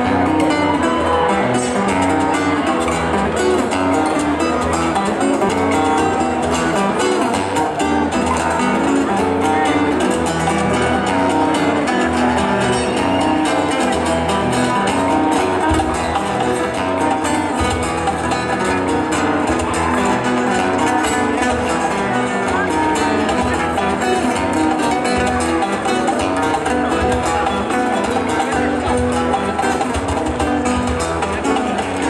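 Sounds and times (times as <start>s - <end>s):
acoustic guitar: 0.0s - 32.0s
second guitar plucking: 0.0s - 32.0s.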